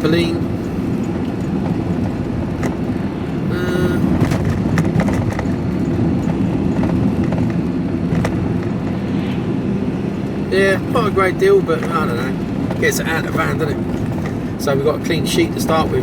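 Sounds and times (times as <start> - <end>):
sharp clicks and rattles: 0.0 - 9.4, 10.2 - 16.0
van engine and road noise: 0.0 - 16.0.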